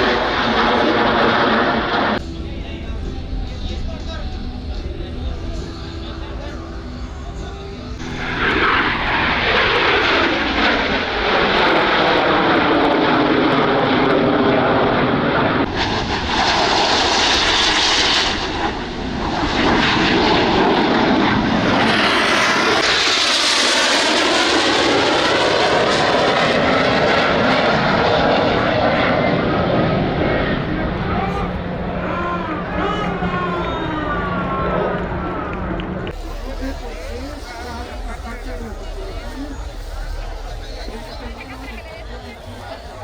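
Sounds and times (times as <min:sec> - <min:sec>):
airplane flying past: 0:00.0 - 0:43.0.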